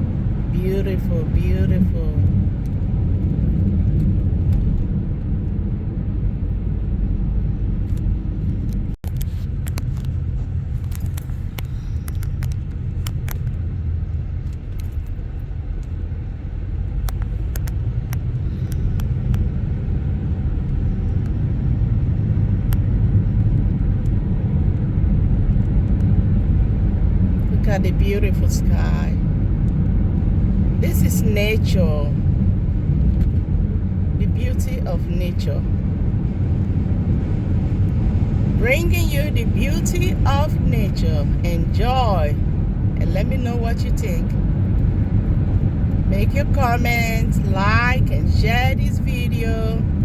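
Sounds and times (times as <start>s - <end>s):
car road rumble from inside: 0.0s - 50.0s.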